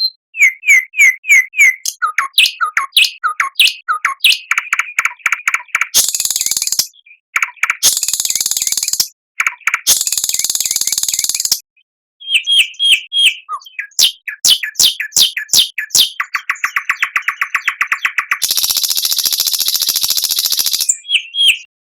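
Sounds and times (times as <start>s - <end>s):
songbird singing: 0.0s - 21.7s.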